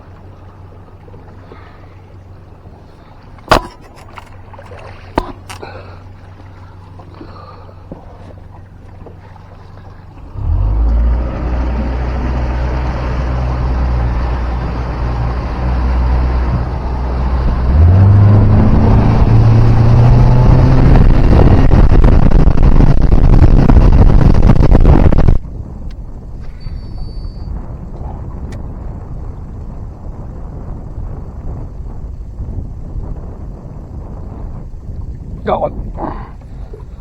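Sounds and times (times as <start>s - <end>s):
outboard motor running: 0.0s - 37.0s.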